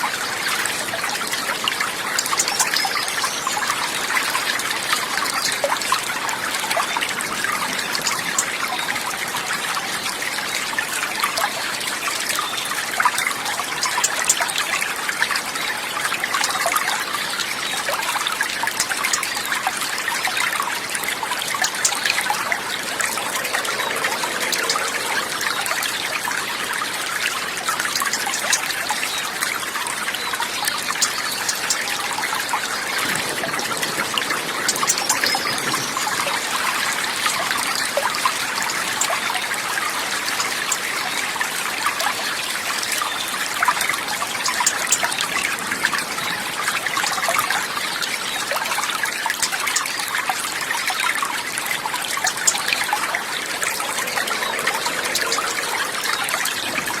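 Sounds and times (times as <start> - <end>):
stream water trickling: 0.0 - 57.0.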